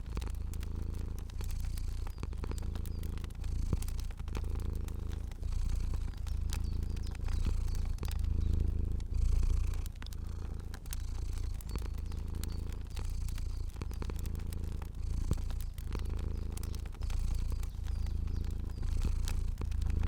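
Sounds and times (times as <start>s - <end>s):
cat purring: 0.0s - 20.0s
wood fire crackling: 0.0s - 20.0s.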